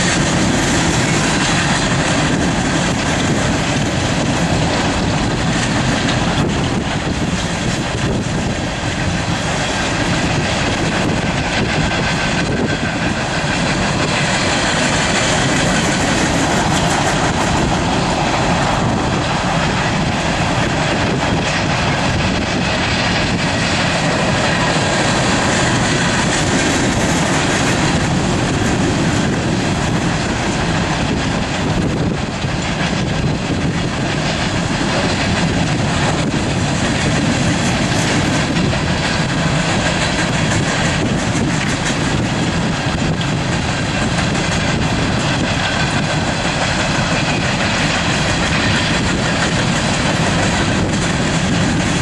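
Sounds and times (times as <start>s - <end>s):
train wheels clattering over rails: 0.0s - 52.0s.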